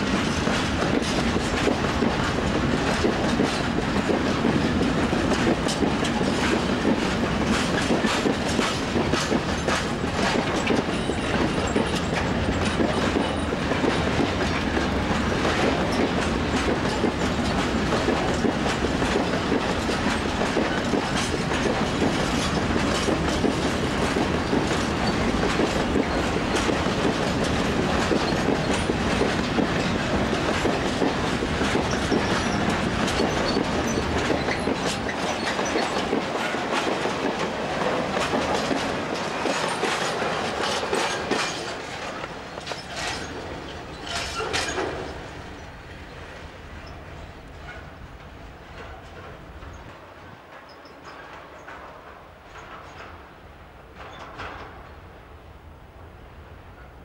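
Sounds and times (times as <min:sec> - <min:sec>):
train wheels clickety-clack: 0:00.0 - 0:55.4
freight train rumble: 0:00.0 - 0:57.0.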